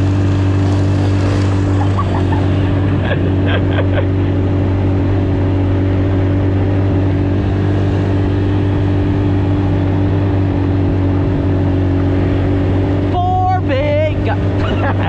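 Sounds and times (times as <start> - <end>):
constant rushing noise: 0.0 - 15.0
vehicle engine running steadily: 0.0 - 15.0.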